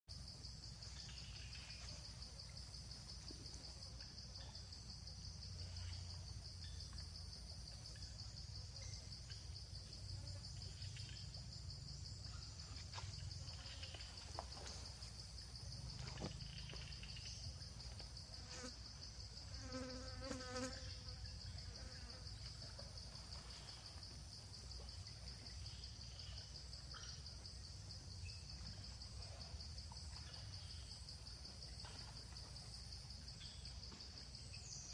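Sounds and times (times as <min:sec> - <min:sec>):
insects buzzing: 0:00.1 - 0:34.9.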